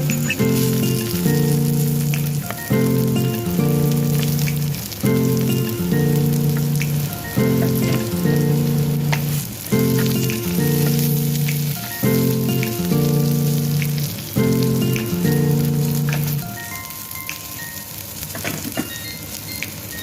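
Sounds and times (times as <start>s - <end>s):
food sizzling in a pan: 0.0s - 20.0s
instrumental background music: 0.0s - 20.0s.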